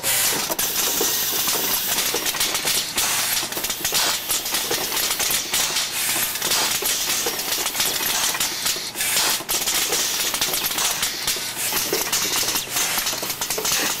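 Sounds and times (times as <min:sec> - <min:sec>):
pneumatic hiss: 0:00.0 - 0:14.0
metal parts clicking and clattering: 0:00.2 - 0:14.0.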